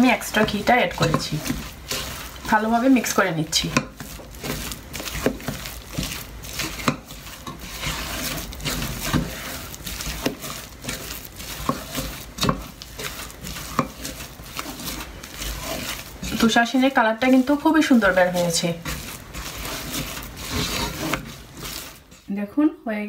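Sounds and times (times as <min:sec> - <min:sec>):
spatula scraping thick dough: 0:00.0 - 0:22.4.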